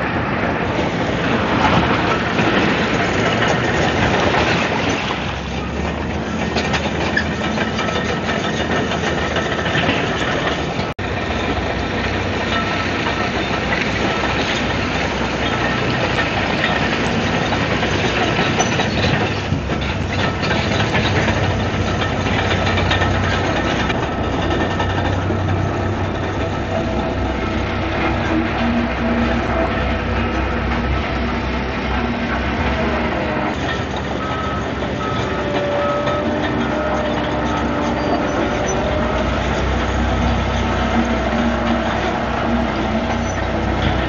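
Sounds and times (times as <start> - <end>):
diesel engine under load: 0.0 - 44.0
steel tracks clattering: 0.0 - 44.0.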